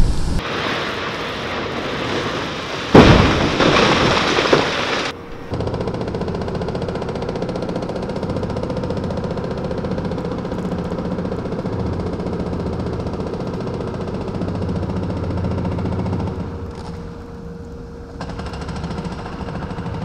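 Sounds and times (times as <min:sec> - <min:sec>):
excavator engine running: 0:00.0 - 0:20.0
hydraulic breaker hammering concrete: 0:02.9 - 0:17.1, 0:18.1 - 0:20.0.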